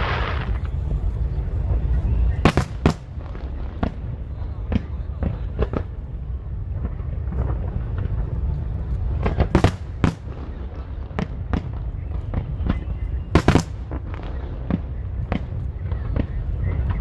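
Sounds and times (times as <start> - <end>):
fireworks bangs and pops: 0.0 - 17.0
steady low rumble: 0.0 - 17.0.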